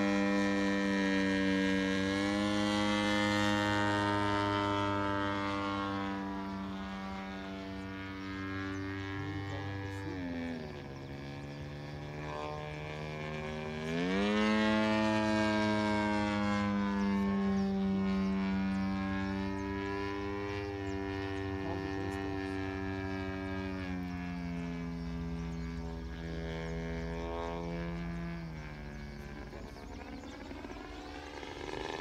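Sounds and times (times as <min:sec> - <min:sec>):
model airplane engine droning: 0:00.0 - 0:32.0.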